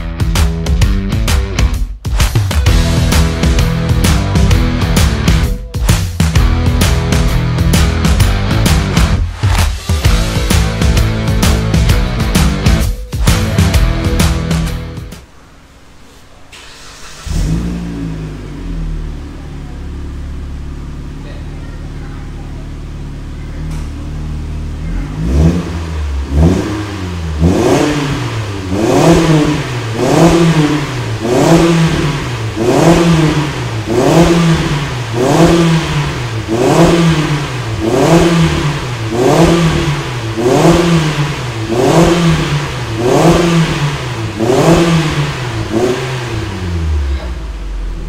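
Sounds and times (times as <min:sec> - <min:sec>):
car engine revving: 0:02.2 - 0:48.0.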